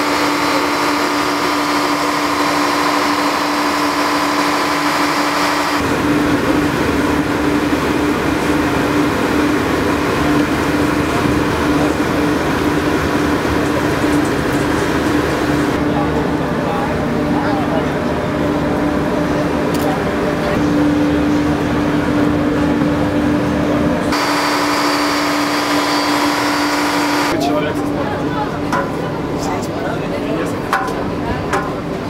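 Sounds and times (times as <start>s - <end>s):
machinery hum: 0.0s - 32.0s
rough engine drone: 0.0s - 32.0s.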